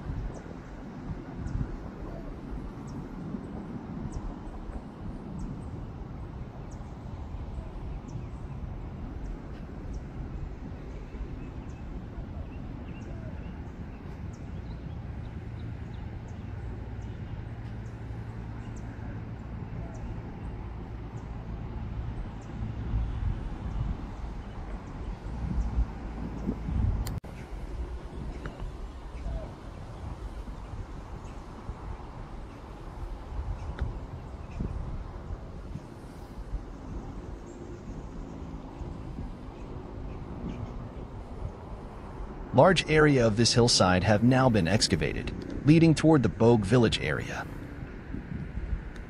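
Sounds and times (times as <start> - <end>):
steady low hum: 0.0 - 49.0
wind rumbling on microphone: 0.0 - 49.0.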